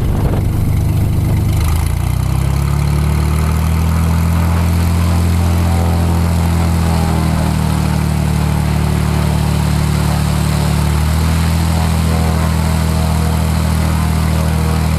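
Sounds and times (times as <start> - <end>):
light aircraft engine and propeller: 0.0 - 14.9.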